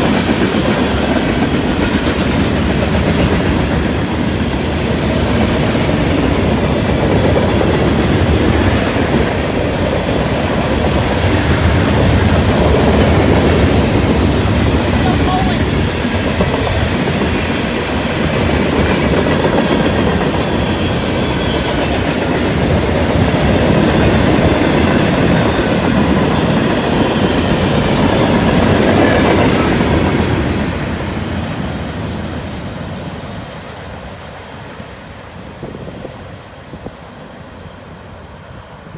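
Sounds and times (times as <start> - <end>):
freight train cars rolling past: 0.0 - 38.9.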